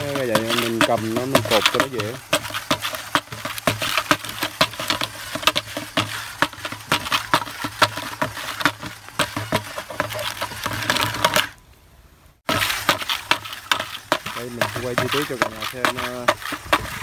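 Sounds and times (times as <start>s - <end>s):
netting crackling over dry straw: 0.0s - 11.6s, 12.4s - 17.0s.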